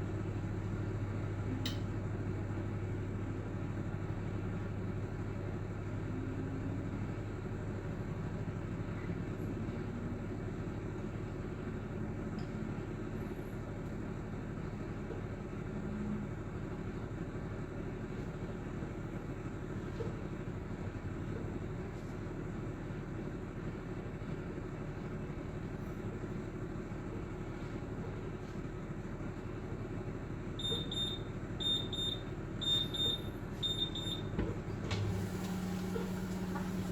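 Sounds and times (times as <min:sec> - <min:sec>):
oven fan whirring: 0:00.0 - 0:36.9.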